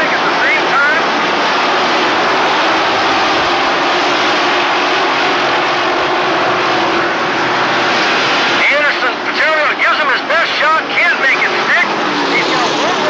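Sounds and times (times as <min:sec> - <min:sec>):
race truck engines: 0:00.0 - 0:13.0.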